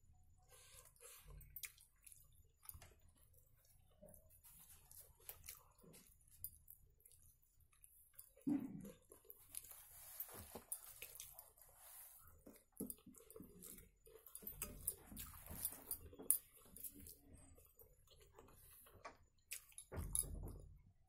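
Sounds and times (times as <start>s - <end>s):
wet chewing and mouth smacks: 1.2s - 9.8s, 10.6s - 19.9s.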